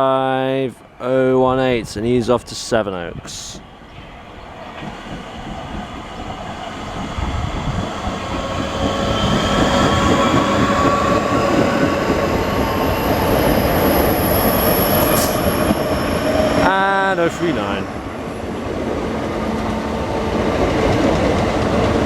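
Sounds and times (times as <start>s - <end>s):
train wheels rumbling: 1.7s - 22.0s.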